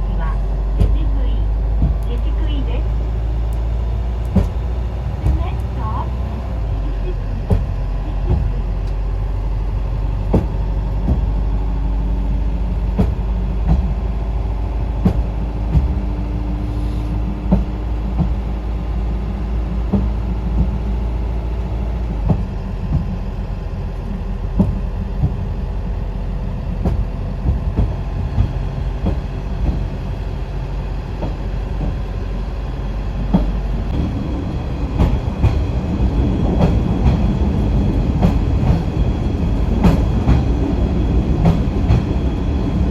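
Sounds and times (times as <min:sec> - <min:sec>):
engine low drone: 0:00.0 - 0:42.9
wheels clicking on track: 0:00.0 - 0:42.9.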